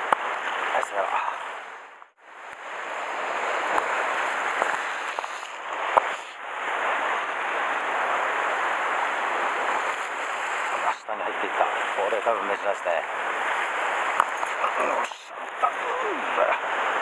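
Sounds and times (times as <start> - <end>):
surf washing over rocks: 0.0 - 17.0.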